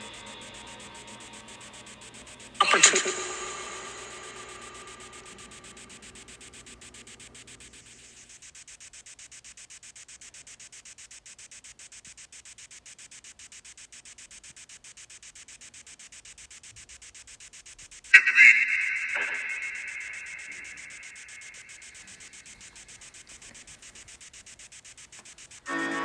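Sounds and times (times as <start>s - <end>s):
pulsing static hiss: 0.0s - 26.0s.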